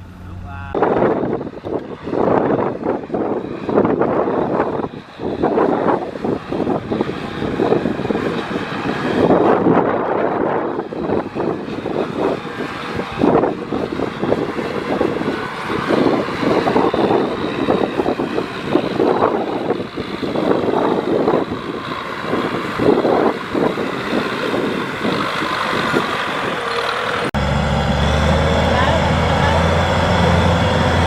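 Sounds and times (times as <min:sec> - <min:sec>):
diesel engine running rough: 0:00.0 - 0:31.0.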